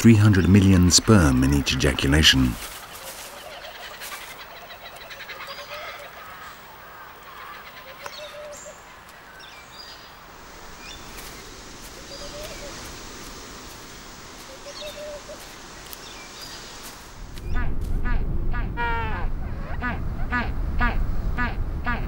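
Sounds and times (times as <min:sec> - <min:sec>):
outdoor ambience hiss: 0:00.0 - 0:22.0.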